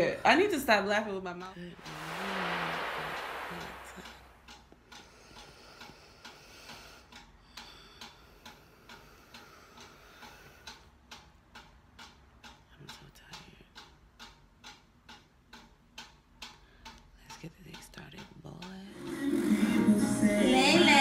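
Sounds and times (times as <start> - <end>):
faint even ticking: 0.0 - 21.0.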